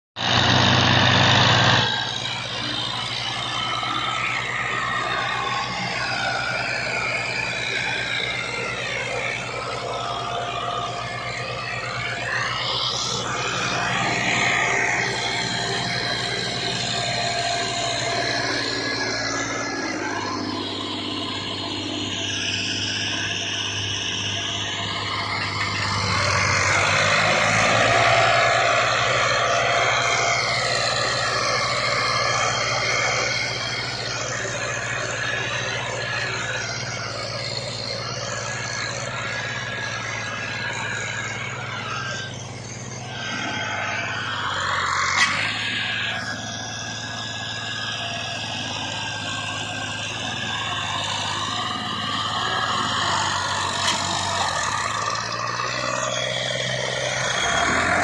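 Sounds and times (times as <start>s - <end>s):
tractor engine running under load: 0.2s - 58.0s.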